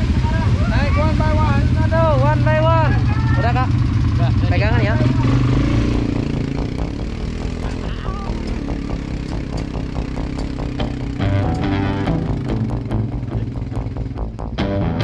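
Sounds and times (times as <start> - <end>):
quad engine running: 0.0 - 15.0.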